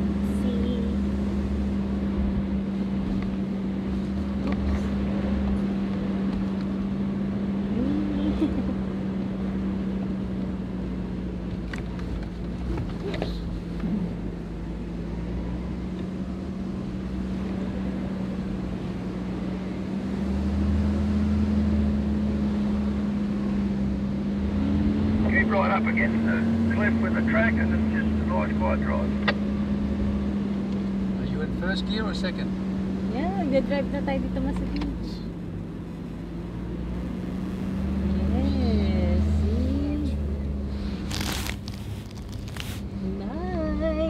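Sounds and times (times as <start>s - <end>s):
engine drone: 0.0s - 44.0s
tyre and road rumble: 0.0s - 44.0s.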